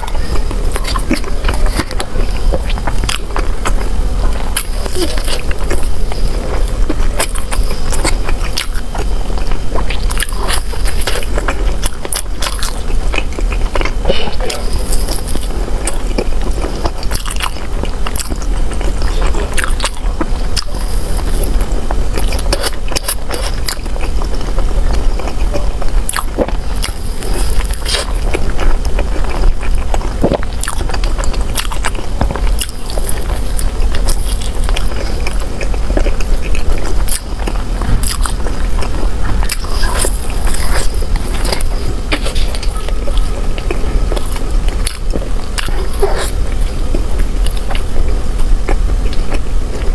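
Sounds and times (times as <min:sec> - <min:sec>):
chewing bread: 0:00.0 - 0:49.9
steady low hum: 0:00.0 - 0:49.9.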